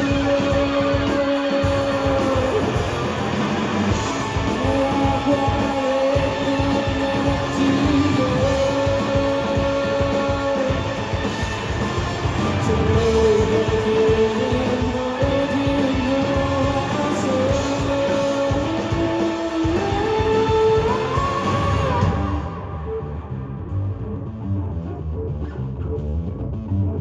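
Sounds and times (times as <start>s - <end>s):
electric guitar melody: 0.0s - 23.3s
bass guitar: 0.0s - 27.0s
drums: 0.0s - 27.0s.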